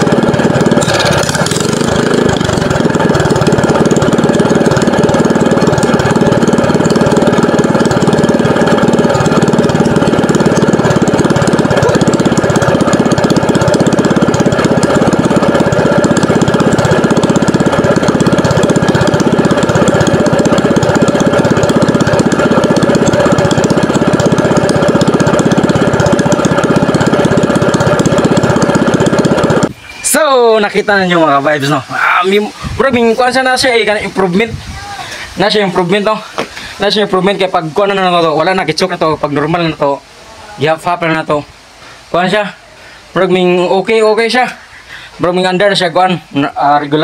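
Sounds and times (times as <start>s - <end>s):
small engine running: 0.0s - 40.1s, 40.7s - 47.0s.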